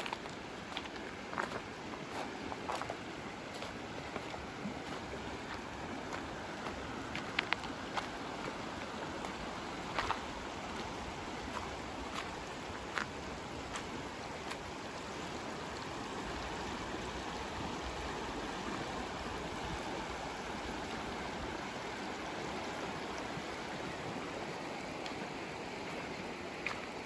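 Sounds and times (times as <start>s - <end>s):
river flowing: 0.0s - 27.0s.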